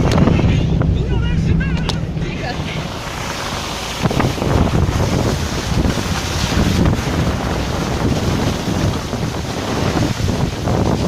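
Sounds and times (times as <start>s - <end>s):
car engine rumble: 0.0s - 11.0s
wind buffeting microphone: 0.0s - 11.0s.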